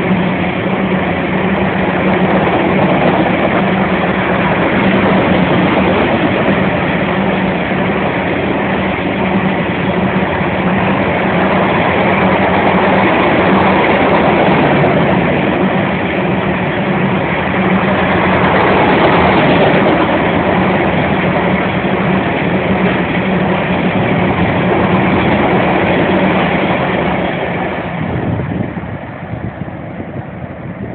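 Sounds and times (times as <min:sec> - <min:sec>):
train wheels rumbling and clattering: 0:00.0 - 0:30.9.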